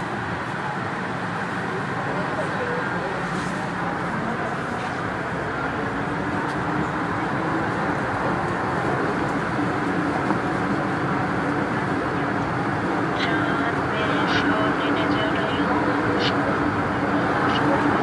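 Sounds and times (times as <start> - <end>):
train wheels rumbling on rail: 0.0 - 14.9.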